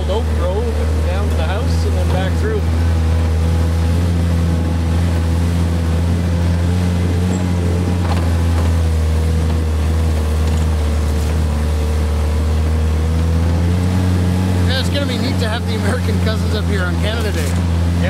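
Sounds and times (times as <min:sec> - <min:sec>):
vehicle engine running steadily: 0:00.0 - 0:18.0.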